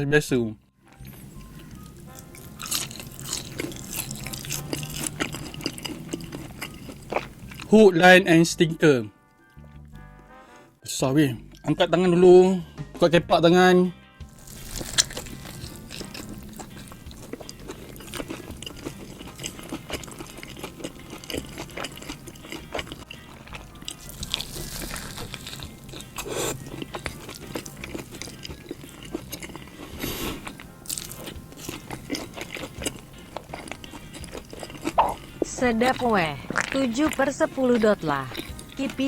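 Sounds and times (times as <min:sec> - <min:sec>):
crunchy bites and chewing: 0:00.9 - 0:07.8, 0:14.3 - 0:39.0.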